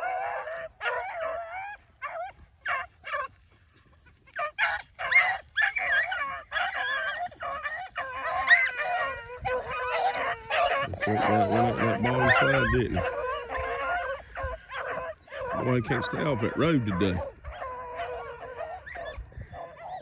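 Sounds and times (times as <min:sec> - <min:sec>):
beagles baying: 0:00.0 - 0:20.0.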